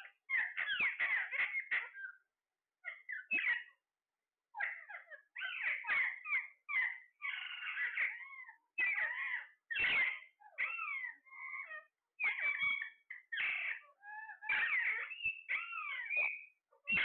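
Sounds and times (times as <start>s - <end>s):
parakeets squawking: 0.0s - 2.2s, 2.8s - 3.7s, 4.6s - 17.0s.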